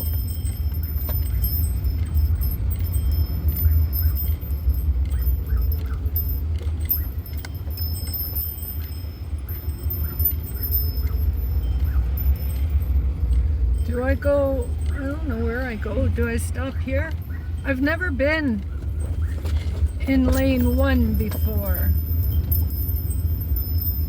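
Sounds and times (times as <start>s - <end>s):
keys jingling: 0.0s - 24.0s
road noise: 0.0s - 24.0s
van engine rumble: 0.0s - 24.0s.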